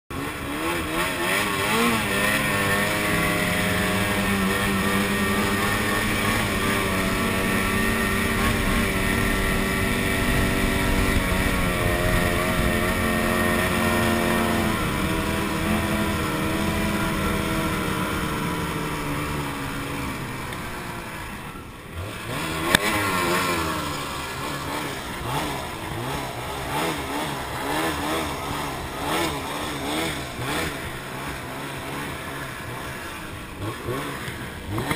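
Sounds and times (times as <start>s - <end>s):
snowmobile engine revving: 0.1s - 34.9s.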